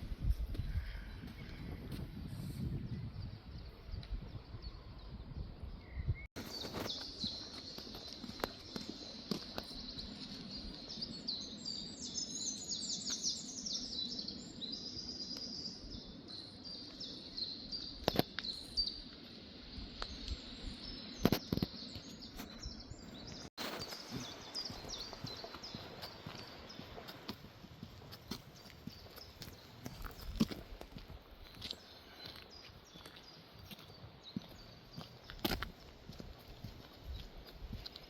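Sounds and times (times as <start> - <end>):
small birds chirping and trilling: 0.3 - 38.0.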